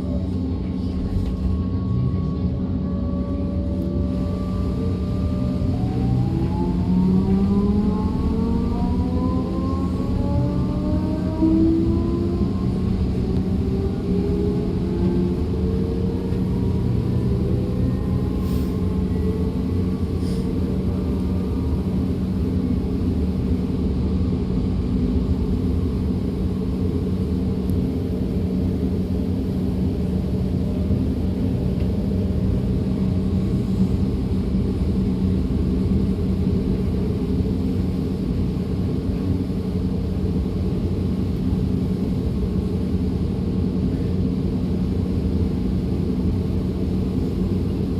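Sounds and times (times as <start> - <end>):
constant hum: 0.0 - 47.9
electric traction drive whine: 0.0 - 47.9
train wheels rumbling on rails: 0.0 - 47.9.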